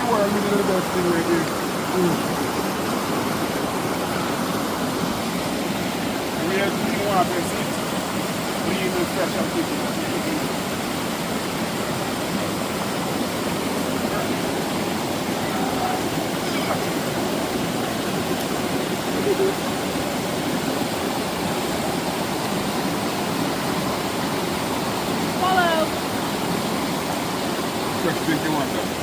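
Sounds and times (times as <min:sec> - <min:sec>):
stream water running: 0:00.0 - 0:29.0.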